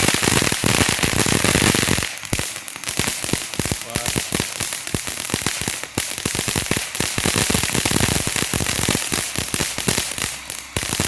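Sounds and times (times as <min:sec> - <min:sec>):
firework fountain hissing: 0:00.0 - 0:11.0
rapid crackling pops: 0:00.0 - 0:11.0.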